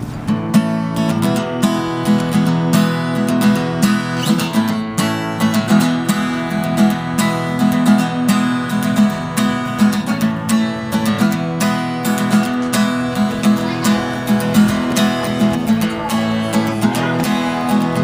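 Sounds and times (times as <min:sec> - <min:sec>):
strummed acoustic guitar music: 0:00.0 - 0:18.0.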